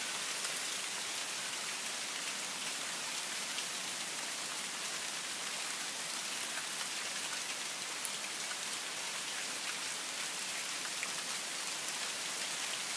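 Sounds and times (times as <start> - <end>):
rain on leafy vegetation: 0.0 - 12.9.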